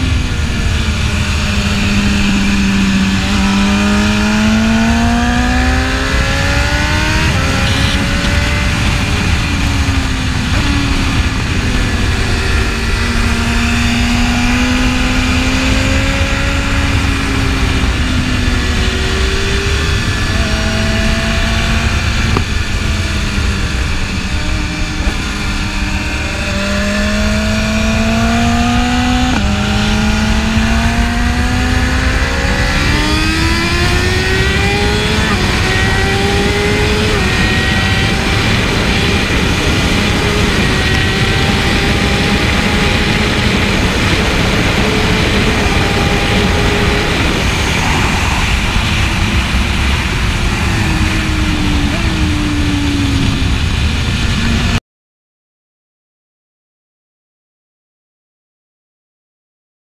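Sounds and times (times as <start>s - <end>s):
motorcycle engine accelerating: 0.0s - 54.8s.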